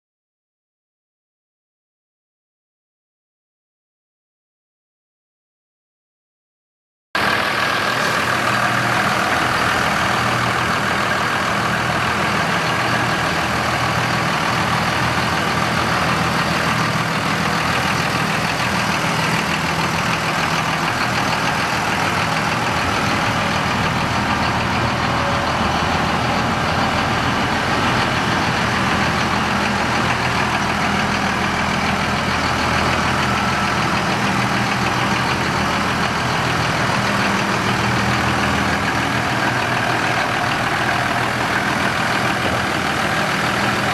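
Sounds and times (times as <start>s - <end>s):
diesel engine idling: 7.2s - 43.9s.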